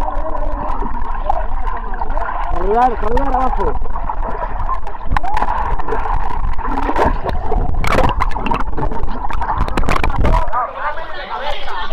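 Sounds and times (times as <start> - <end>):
underwater gurgling and bubbling: 0.0 - 10.6
rush of water: 0.0 - 11.9
water splashes: 0.0 - 11.9.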